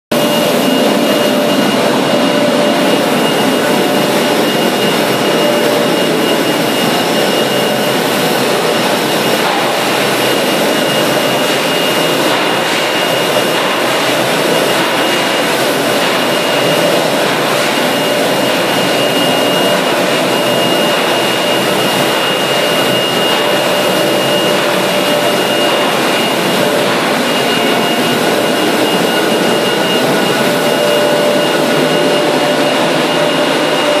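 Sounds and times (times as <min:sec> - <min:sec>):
furnace roaring: 0:00.1 - 0:34.0
high whine: 0:00.1 - 0:34.0.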